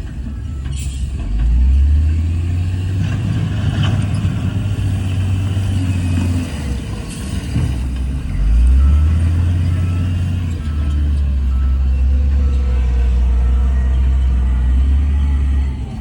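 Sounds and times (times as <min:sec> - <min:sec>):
heavy diesel engine drone: 0:00.0 - 0:16.0.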